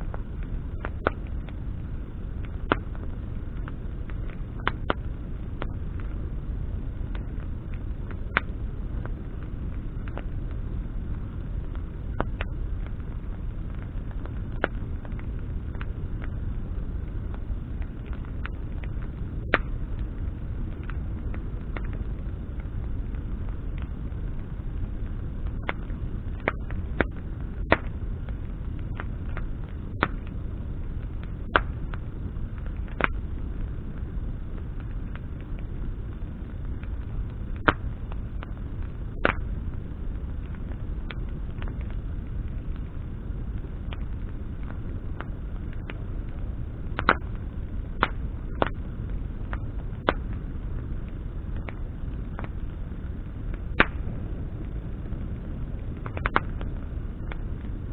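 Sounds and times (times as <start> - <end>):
burning branches crackling: 0.0 - 57.9
fire low rumble: 0.0 - 57.9.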